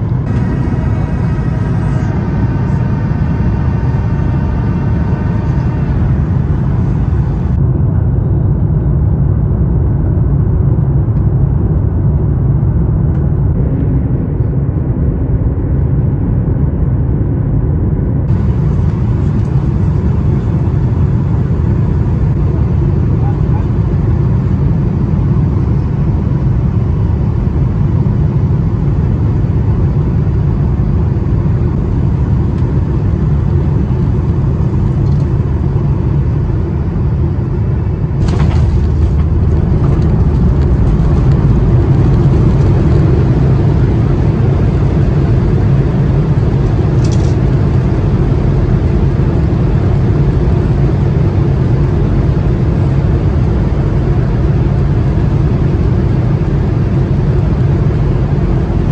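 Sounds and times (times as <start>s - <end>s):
low rumble of engines and airflow: 0.0s - 58.9s.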